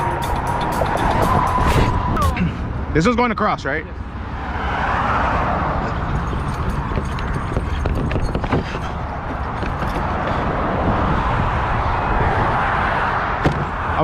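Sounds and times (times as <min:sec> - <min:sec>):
highway traffic rushing: 0:00.0 - 0:14.0.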